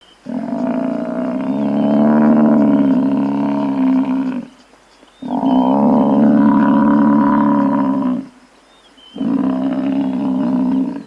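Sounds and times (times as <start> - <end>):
buffalo bellowing: 0.2 - 4.6, 5.2 - 8.4, 9.2 - 11.0.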